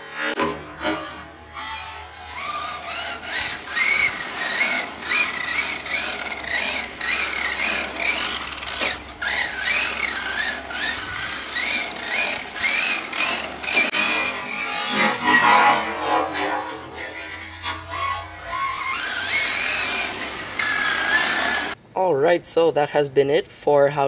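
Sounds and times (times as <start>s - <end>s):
electric toy truck motor whining: 0.0s - 21.8s.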